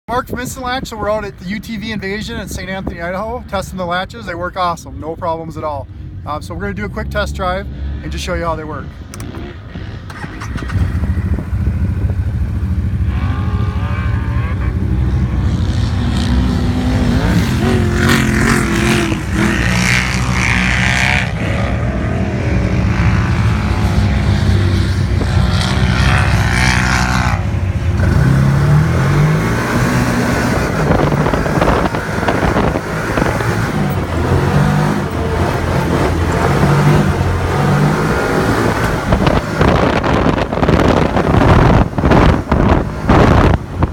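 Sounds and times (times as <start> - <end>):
wind and terrain noise: 0.1 - 43.9
utility vehicle engine revving: 7.7 - 43.9.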